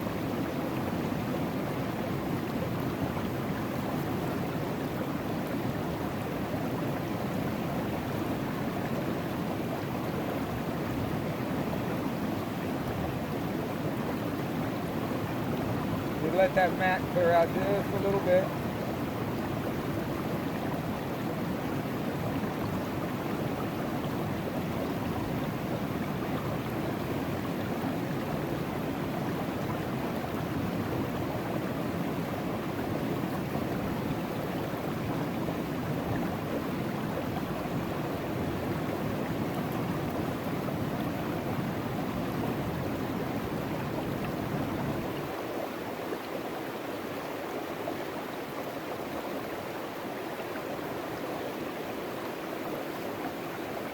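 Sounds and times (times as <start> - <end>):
river water rushing through sluice: 0.0 - 53.9.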